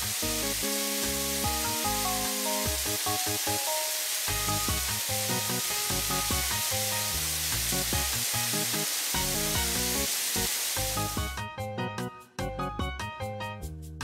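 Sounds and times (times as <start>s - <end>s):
water spraying from spray guns: 0.0s - 11.3s
background music: 0.0s - 14.0s.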